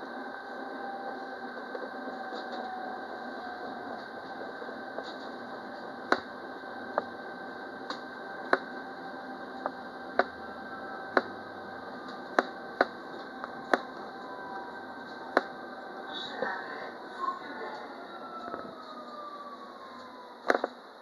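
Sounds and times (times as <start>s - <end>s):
tram running hum: 0.0s - 21.0s.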